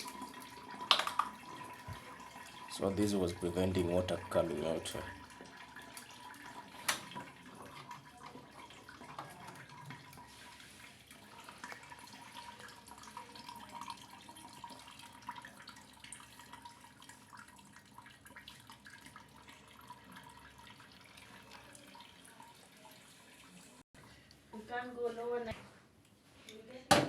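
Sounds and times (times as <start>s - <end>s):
water trickling and dripping: 0.0s - 24.4s.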